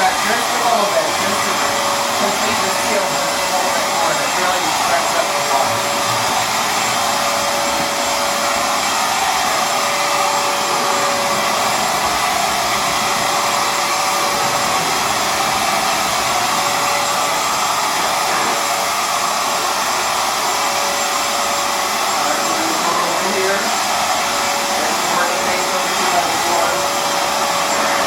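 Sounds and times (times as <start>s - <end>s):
floor cleaner motor whining: 0.0s - 28.0s
water suction rushing: 0.0s - 28.0s.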